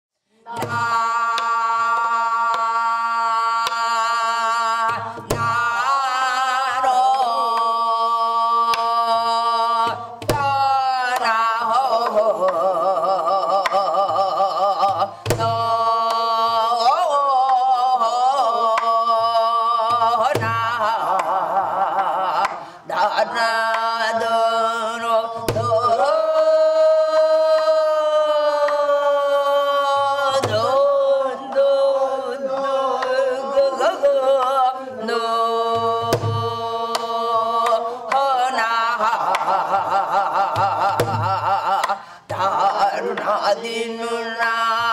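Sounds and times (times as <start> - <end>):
person singing with vibrato: 0.2 - 44.9.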